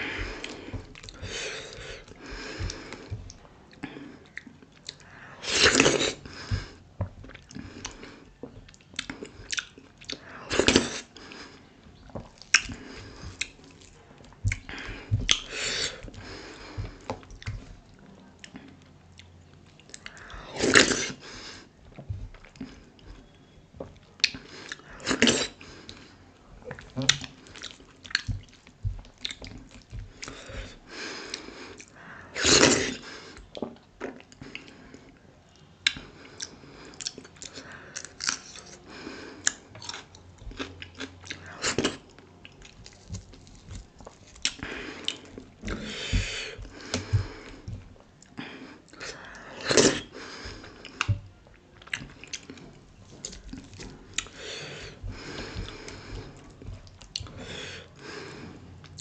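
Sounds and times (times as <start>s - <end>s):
chewing: 0.0s - 21.2s, 21.8s - 32.0s, 35.8s - 58.0s, 58.8s - 59.0s.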